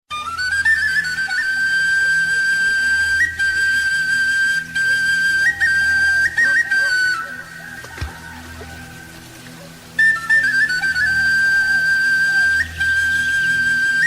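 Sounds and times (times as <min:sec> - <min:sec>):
flute playing long note: 0:00.1 - 0:14.0.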